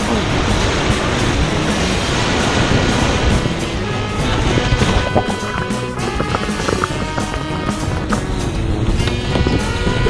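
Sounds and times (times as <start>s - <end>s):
sustained-tone music with heavy bass: 0.0s - 10.0s.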